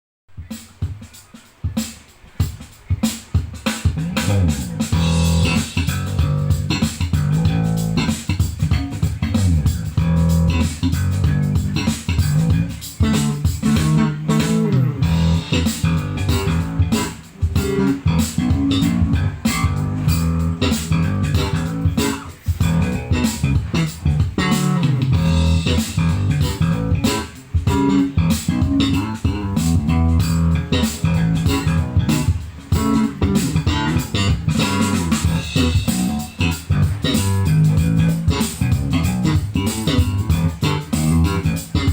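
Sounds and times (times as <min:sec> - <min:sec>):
music with bass guitar line: 0:00.3 - 0:41.9.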